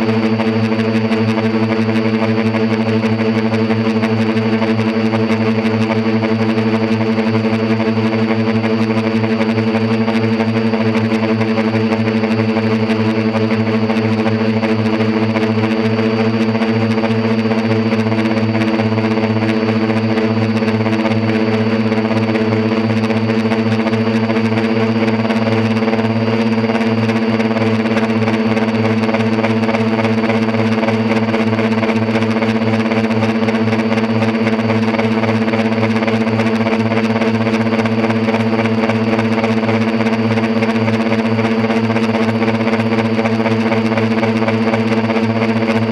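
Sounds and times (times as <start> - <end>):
drone motors and propellers humming: 0.0 - 45.9.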